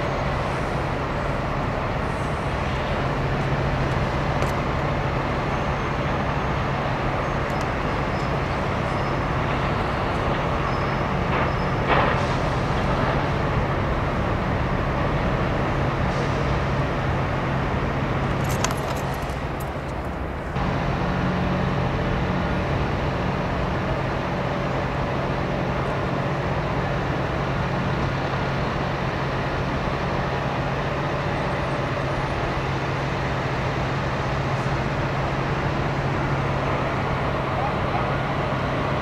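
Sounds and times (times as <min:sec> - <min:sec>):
heavy engines droning: 0:00.0 - 0:39.0.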